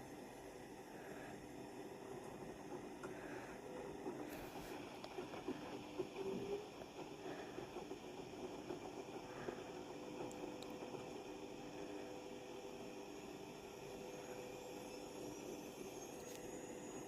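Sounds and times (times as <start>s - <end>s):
appliance motor hum: 0.0s - 17.0s.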